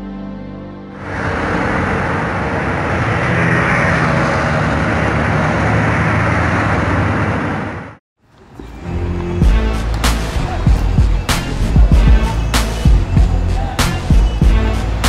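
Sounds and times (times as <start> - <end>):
road noise: 0.9 - 15.0
motor vehicle running: 1.0 - 15.0.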